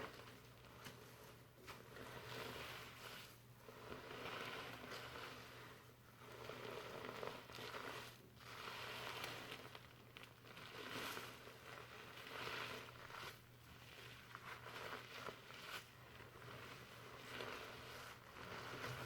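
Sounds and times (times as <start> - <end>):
fingers scrubbing shampoo lather: 1.7 - 19.0.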